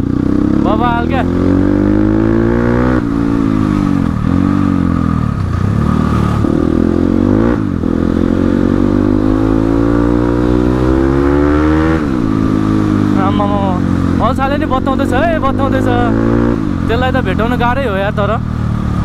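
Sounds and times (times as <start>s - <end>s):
dirt bike engine revving: 0.0s - 18.5s.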